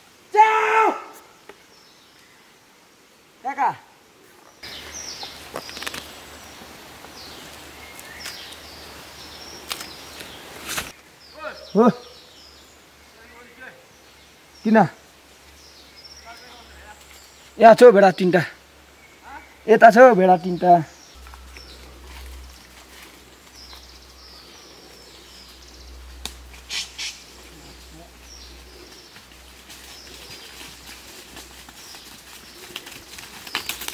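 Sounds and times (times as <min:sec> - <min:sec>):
steady outdoor background noise: 0:00.0 - 0:33.9
high downward-sweeping bird calls: 0:04.6 - 0:33.9.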